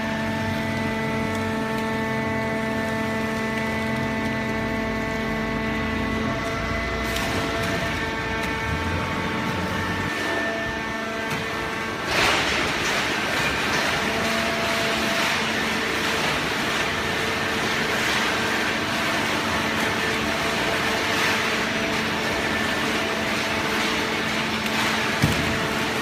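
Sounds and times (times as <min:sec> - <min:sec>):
baler mechanical hum: 0:00.0 - 0:26.0.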